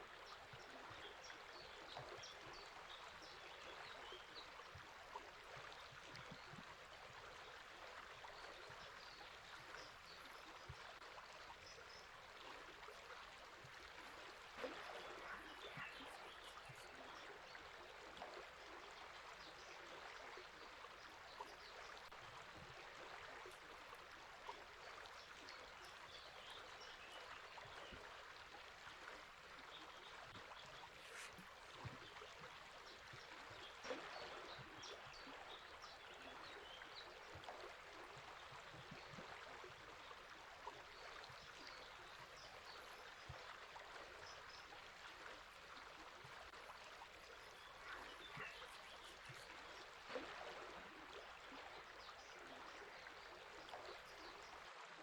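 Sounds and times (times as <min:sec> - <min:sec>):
faint running water: 0:00.0 - 0:55.0.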